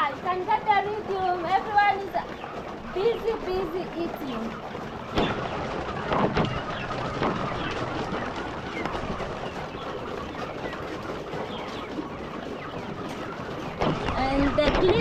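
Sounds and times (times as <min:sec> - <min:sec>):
beaks pecking feed: 0:00.0 - 0:15.0
chicks cheeping: 0:00.0 - 0:15.0.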